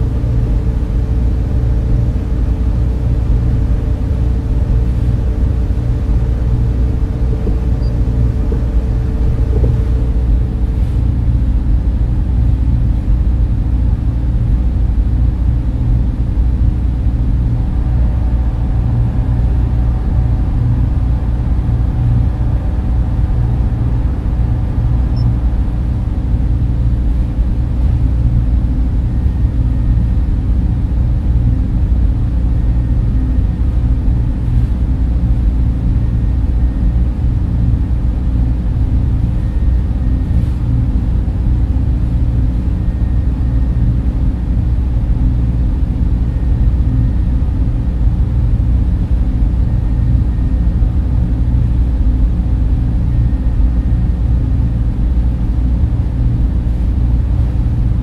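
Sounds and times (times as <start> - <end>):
server fans rumbling: 0.0 - 58.0.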